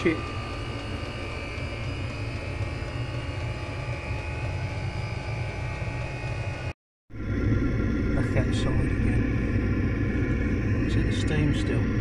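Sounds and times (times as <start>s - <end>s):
air heater humming: 0.0s - 12.0s.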